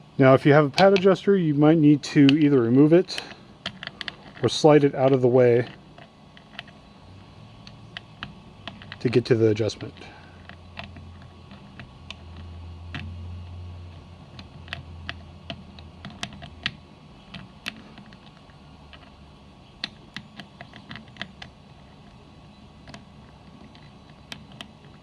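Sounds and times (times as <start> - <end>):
low hum: 0.0 - 25.0
clicks and taps of small parts: 2.2 - 6.8, 7.6 - 19.2, 19.8 - 22.2, 22.8 - 25.0.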